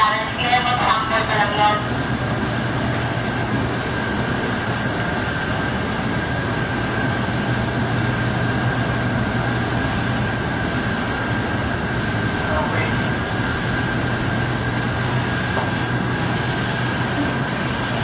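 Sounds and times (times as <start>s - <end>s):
printer mechanical whir: 0.0s - 18.0s.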